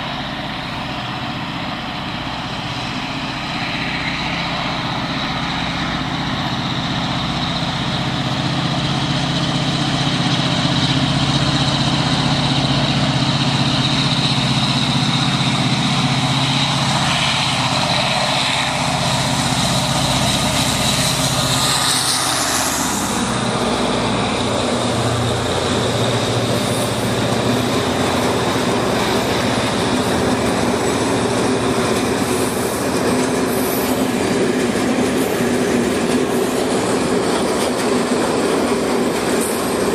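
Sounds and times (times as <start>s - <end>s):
diesel locomotive engine: 0.0s - 39.9s
train wheels rumbling on rails: 0.0s - 39.9s.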